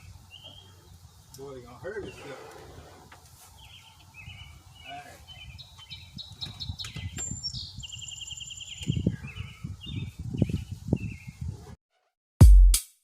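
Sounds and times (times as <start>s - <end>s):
songbirds chirping and trilling: 0.0s - 11.8s.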